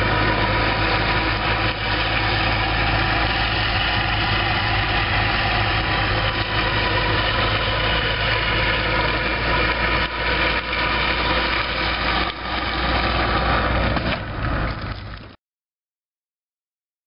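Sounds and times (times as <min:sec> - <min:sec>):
road and tyre noise: 0:00.0 - 0:15.4
vehicle engine running: 0:00.0 - 0:15.4.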